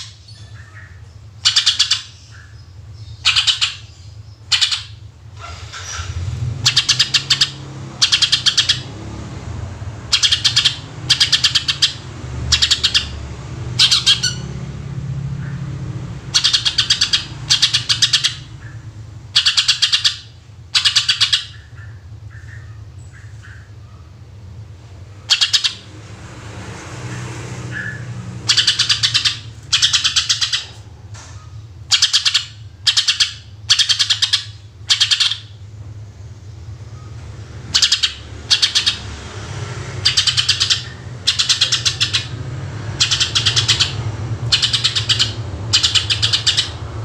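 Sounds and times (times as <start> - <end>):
bird singing rattling volleys: 0.0 - 26.3, 26.9 - 47.0.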